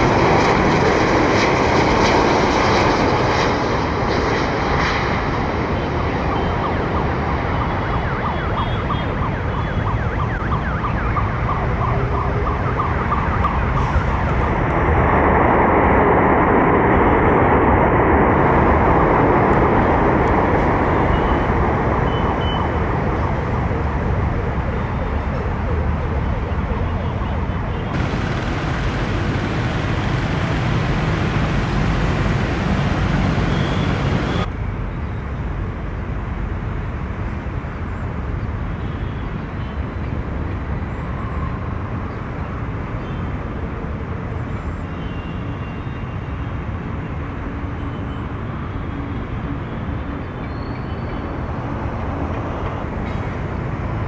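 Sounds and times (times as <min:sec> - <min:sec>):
jet airliner engines running: 0:00.0 - 0:54.0.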